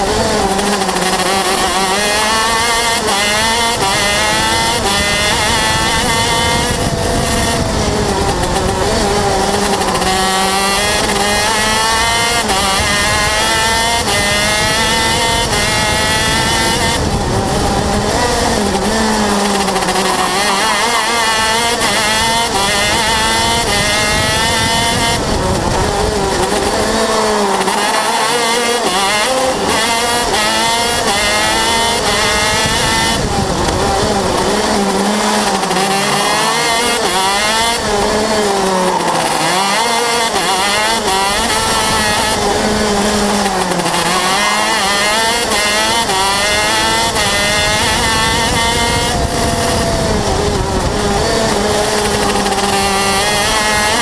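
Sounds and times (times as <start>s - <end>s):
kart engine accelerating: 0.0s - 54.0s.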